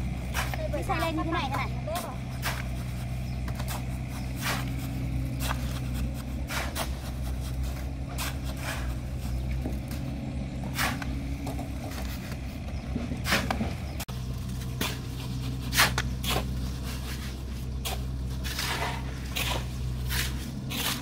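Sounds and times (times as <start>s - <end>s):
hoes scraping through gravel mix: 0.0s - 21.0s
low engine hum: 0.0s - 21.0s.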